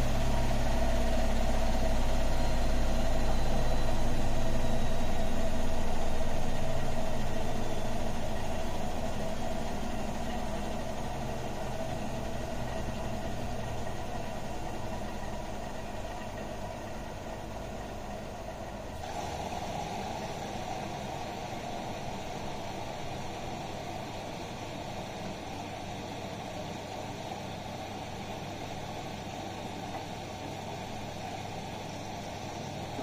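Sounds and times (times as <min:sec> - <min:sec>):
washing machine hum: 0:00.0 - 0:33.0.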